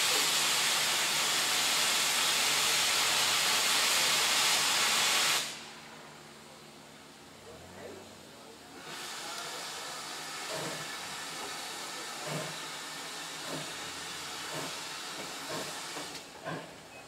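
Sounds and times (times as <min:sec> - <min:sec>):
steam locomotive hissing steam: 0:00.0 - 0:05.9, 0:08.7 - 0:17.0.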